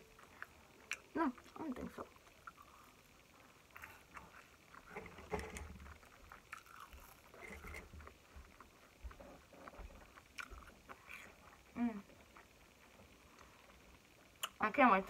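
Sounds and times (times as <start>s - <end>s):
person chewing: 0.0s - 14.6s.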